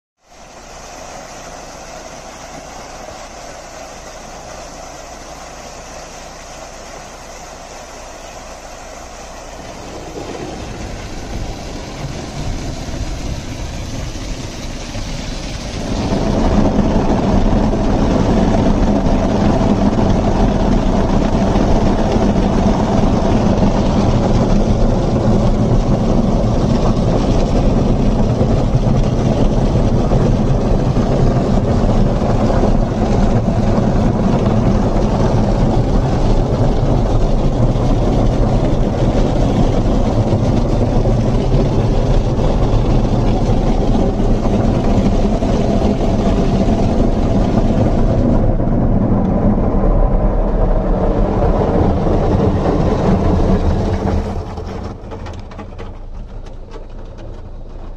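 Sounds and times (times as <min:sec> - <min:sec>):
water drumming on car roof: 0:00.2 - 0:57.9
car engine humming: 0:00.3 - 0:57.9.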